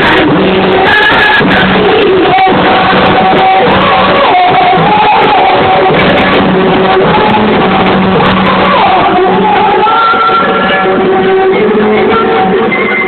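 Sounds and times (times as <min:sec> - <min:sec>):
loud music with singing: 0:00.0 - 0:13.0.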